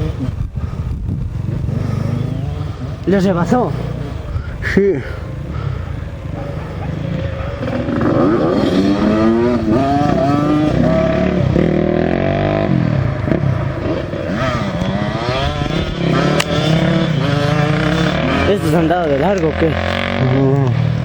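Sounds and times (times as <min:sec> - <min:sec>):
racing motorcycles passing by: 0:00.0 - 0:21.0.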